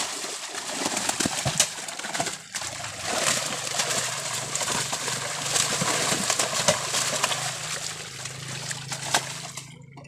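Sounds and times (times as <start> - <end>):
fish slapping: 0.0 - 9.7
fish thrashing in water: 0.0 - 9.9
low steady hum: 0.0 - 10.0.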